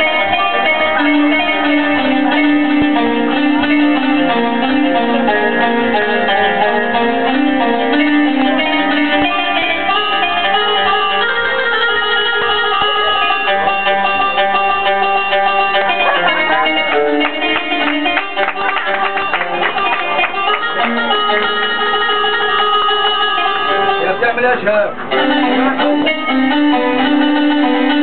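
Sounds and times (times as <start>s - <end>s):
plucked string instrument: 0.0s - 28.0s.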